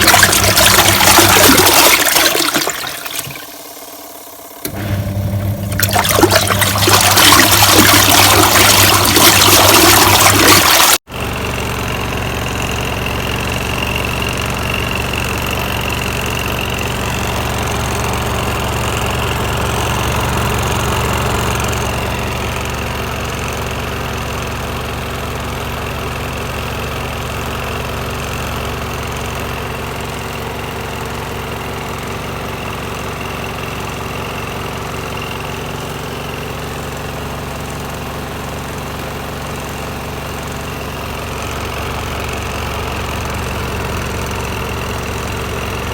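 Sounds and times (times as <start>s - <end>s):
washing machine motor hum: 0.0s - 23.2s, 31.1s - 45.9s.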